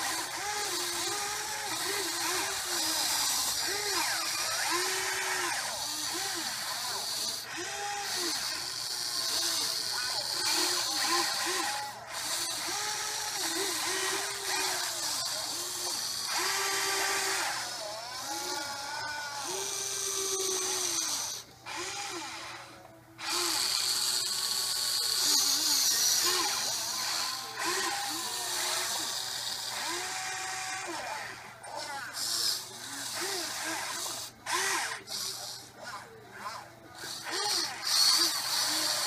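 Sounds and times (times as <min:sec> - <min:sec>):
small electric motors whining: 0:00.0 - 0:39.0.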